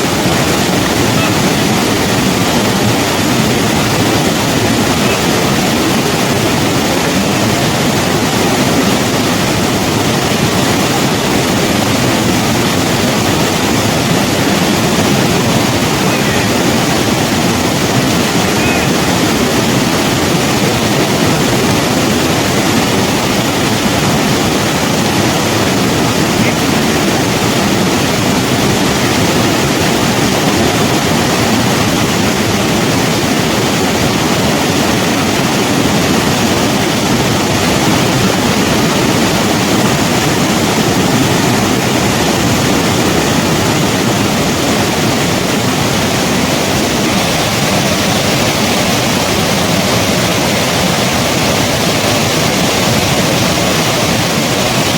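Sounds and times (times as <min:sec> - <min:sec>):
river rushing over rocks: 0:00.0 - 0:54.9.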